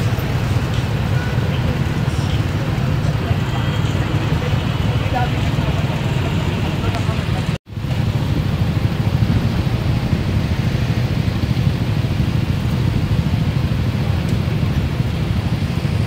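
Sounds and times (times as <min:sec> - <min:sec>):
motorcycle and car engines idling: 0:00.0 - 0:16.0.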